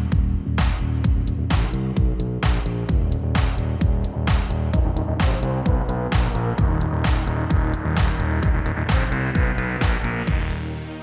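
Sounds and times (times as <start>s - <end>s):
electronic music with driving beat: 0.0s - 11.0s.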